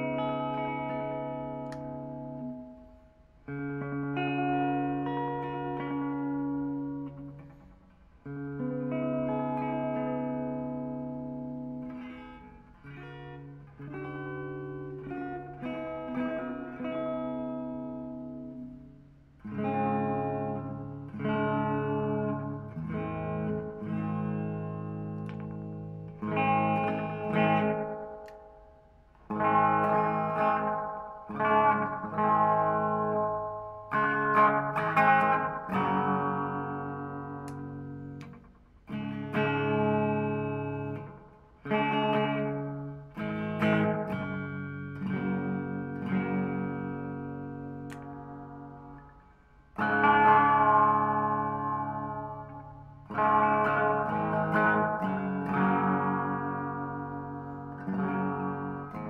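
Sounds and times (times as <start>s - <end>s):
electric guitar chords ringing: 0.0s - 59.0s.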